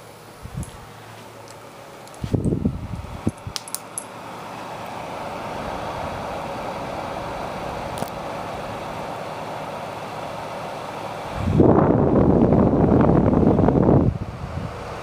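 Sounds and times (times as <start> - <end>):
tower fan running: 0.0 - 15.0.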